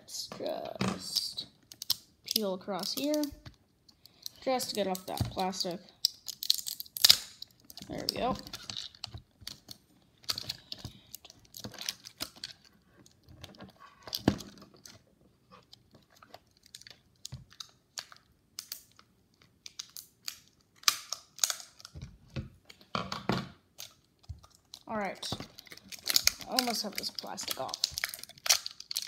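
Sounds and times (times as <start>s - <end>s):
plastic film peeling crackles: 1.6s - 15.0s, 15.6s - 22.0s, 23.7s - 29.0s.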